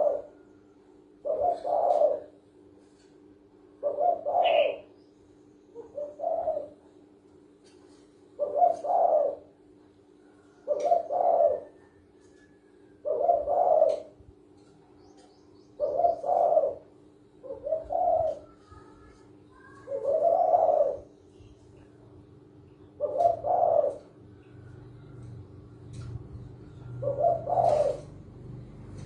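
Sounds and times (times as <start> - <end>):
dove cooing: 0.0 - 5.0, 5.7 - 7.2, 7.9 - 14.7, 15.8 - 29.0
steady low hum: 0.0 - 29.0.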